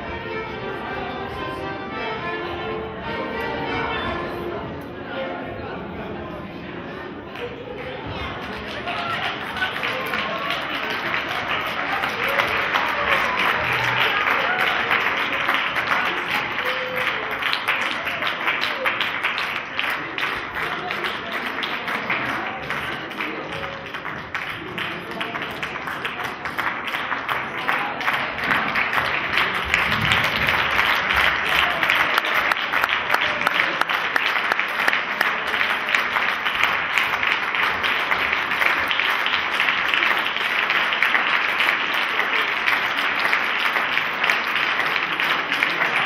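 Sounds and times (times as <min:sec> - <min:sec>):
audience applauding: 0:07.3 - 0:46.0.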